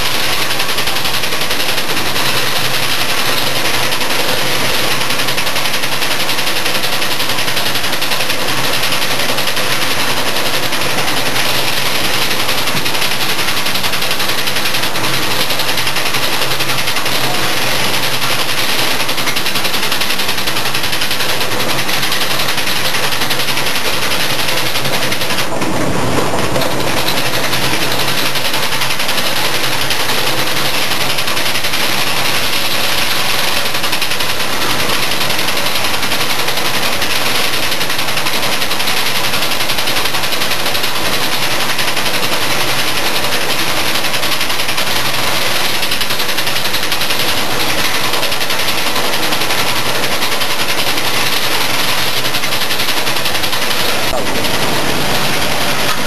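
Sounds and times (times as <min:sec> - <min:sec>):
machine clattering and hissing: 0:00.0 - 0:56.0
loud rush of noise: 0:01.3 - 0:37.2, 0:44.8 - 0:56.0.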